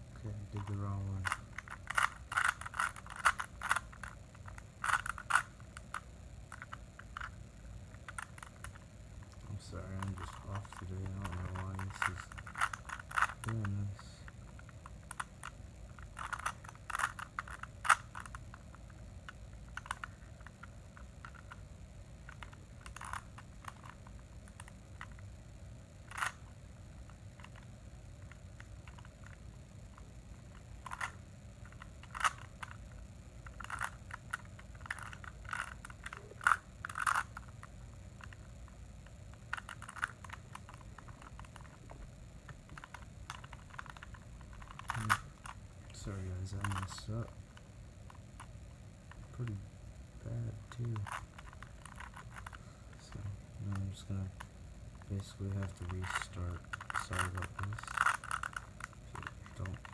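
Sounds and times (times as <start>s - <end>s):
low steady hum: 0.0s - 59.9s
puzzle cube clicking and rattling: 0.3s - 21.6s, 22.2s - 25.2s, 26.0s - 38.5s, 39.2s - 49.6s, 50.3s - 59.9s.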